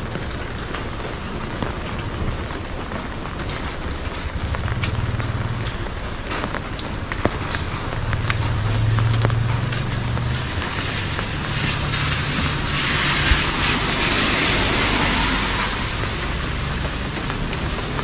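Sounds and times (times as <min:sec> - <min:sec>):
tyres hissing on wet road: 0:00.0 - 0:18.0
vehicle engine humming: 0:00.2 - 0:18.0.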